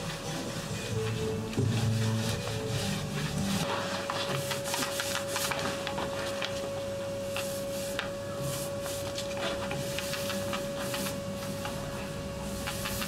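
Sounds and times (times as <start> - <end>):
paint roller swishing on wood: 0.0 - 11.8, 12.5 - 13.0.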